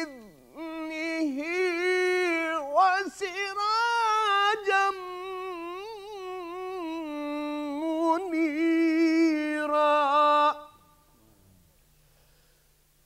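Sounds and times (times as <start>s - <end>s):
man chanting recitation: 0.0s - 11.6s.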